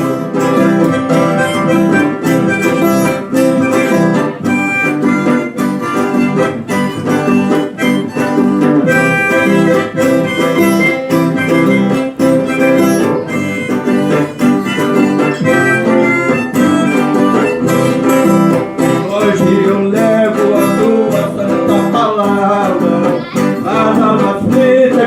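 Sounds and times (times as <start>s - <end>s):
harmonica playing a hymn melody: 0.0s - 24.9s
strummed acoustic guitar: 0.0s - 25.0s.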